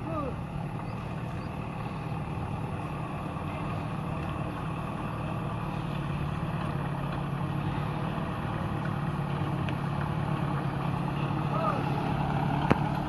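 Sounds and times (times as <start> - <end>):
truck engine under load: 0.0 - 13.0.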